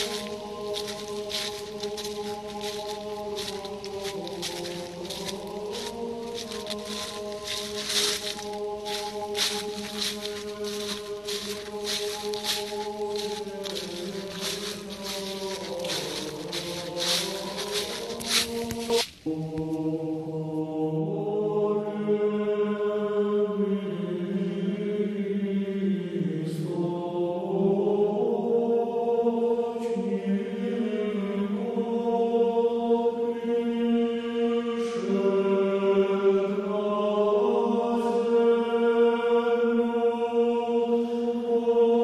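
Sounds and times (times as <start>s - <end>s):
voices chanting long notes: 0.0s - 42.0s.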